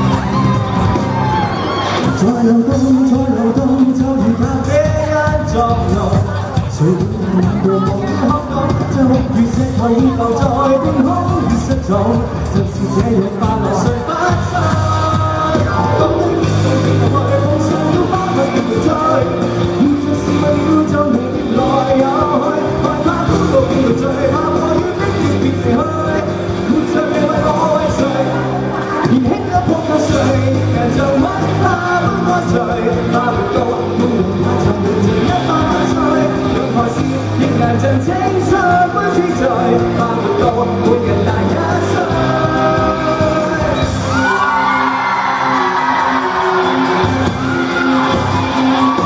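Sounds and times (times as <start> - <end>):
amplified backing music: 0.0 - 49.0
man singing into microphone: 2.0 - 49.0.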